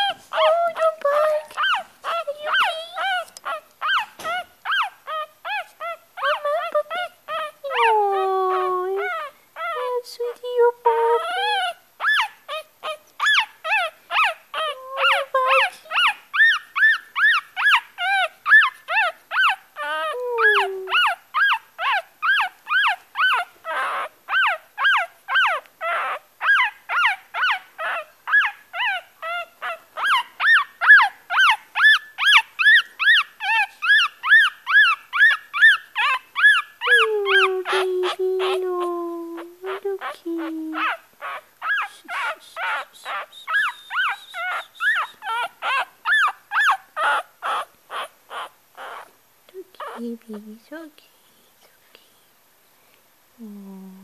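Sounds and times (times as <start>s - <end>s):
puppy crying high squeals: 0.0s - 9.9s, 11.1s - 38.6s, 39.7s - 49.1s.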